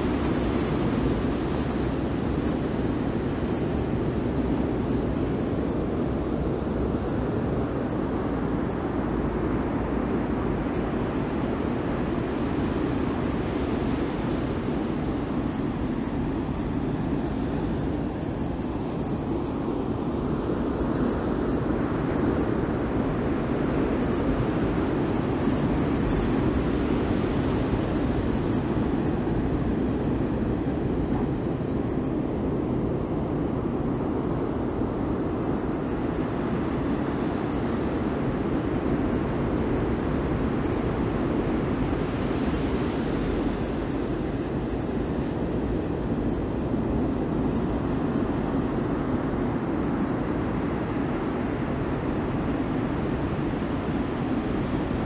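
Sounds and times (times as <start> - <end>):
ocean surf washing on shore: 0.0 - 55.0
wind on microphone: 0.0 - 55.0.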